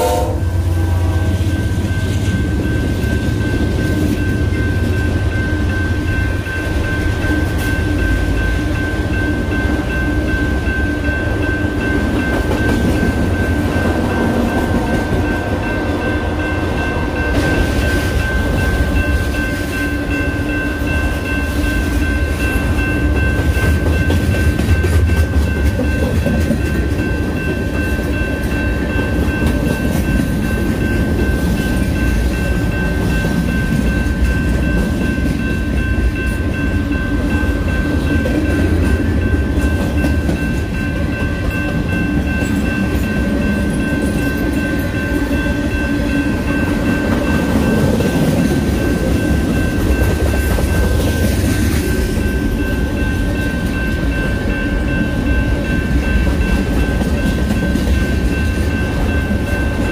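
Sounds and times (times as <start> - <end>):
diesel locomotive: 0.0 - 59.9
freight train wheels rumbling: 0.0 - 59.9.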